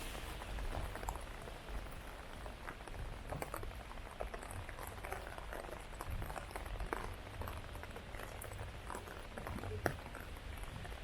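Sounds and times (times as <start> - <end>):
heavy rain falling: 0.0 - 11.0
sharp raindrop ticks: 0.0 - 11.0.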